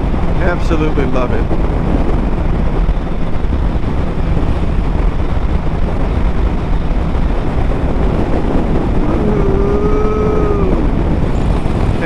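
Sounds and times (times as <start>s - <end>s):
engine and road rumble: 0.0s - 12.0s
wind rush over microphone: 0.0s - 12.0s.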